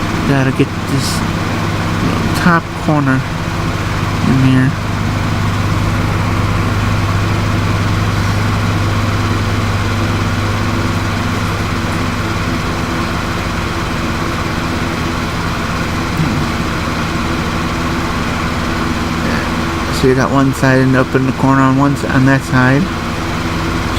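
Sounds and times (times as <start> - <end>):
lawnmower engine drone: 0.0 - 23.9.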